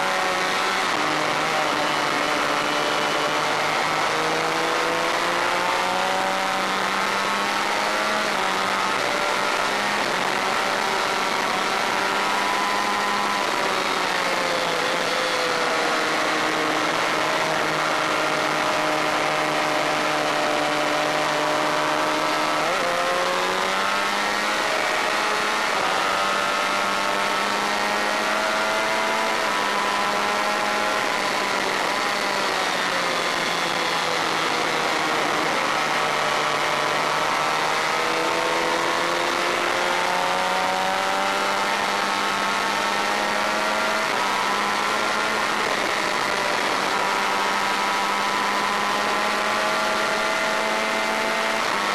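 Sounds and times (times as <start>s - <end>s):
racing motorcycle engine: 0.0s - 51.9s.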